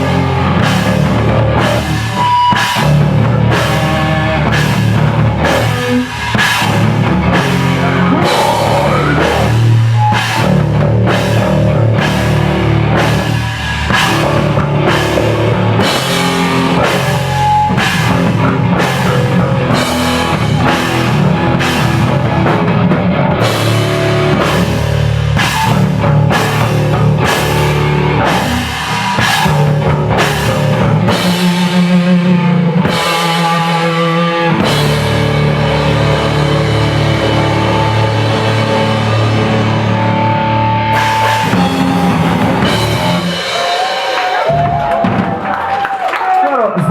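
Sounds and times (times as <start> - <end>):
live rock band playing: 0.0 - 45.8
drum kit beat: 0.0 - 46.1.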